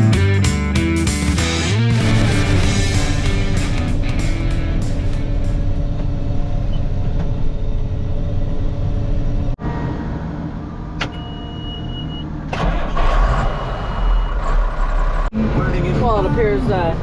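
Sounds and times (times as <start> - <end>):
combine harvester drone: 1.5 - 17.0.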